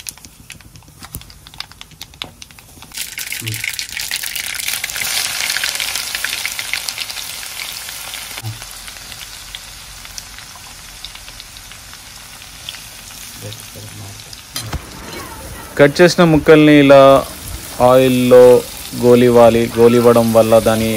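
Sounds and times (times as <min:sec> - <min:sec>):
hot oil sizzling and crackling: 0:00.0 - 0:20.9.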